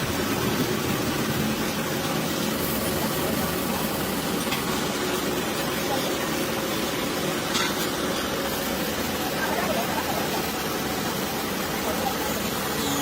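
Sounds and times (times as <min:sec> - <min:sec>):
machine humming: 0:00.0 - 0:12.7.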